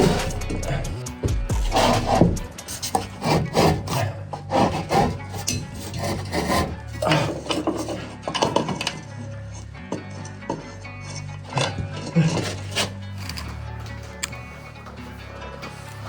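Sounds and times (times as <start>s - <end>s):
rubbing and scraping: 0.0s - 9.1s, 10.8s - 16.0s.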